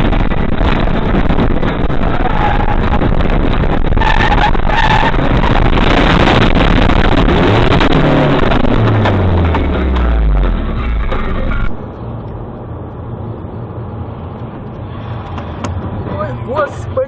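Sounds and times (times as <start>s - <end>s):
heavy truck engine: 0.0s - 17.0s.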